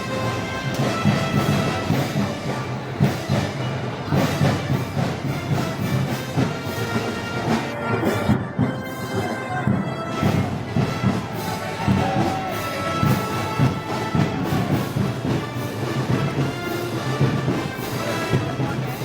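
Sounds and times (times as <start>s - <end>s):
brass band playing: 0.0s - 19.0s
drum beats: 0.0s - 19.0s.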